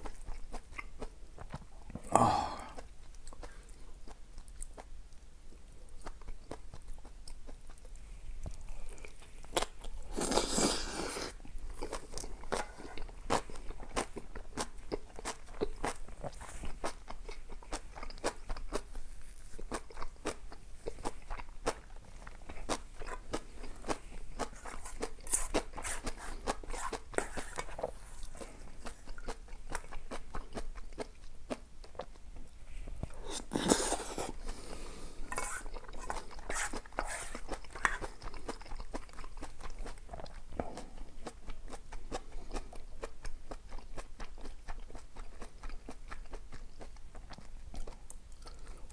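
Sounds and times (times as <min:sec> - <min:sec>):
person chewing crunchy food: 0:05.8 - 0:48.9.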